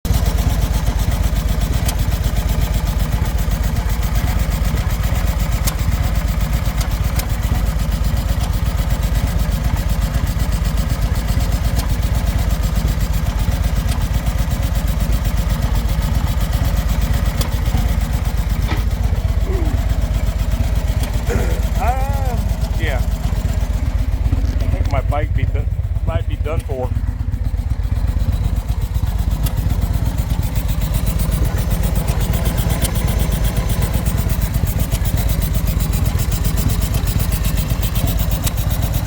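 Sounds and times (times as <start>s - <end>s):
abnormal mechanical engine noise: 0.1s - 39.0s
motorcycle engine idling: 0.1s - 39.0s.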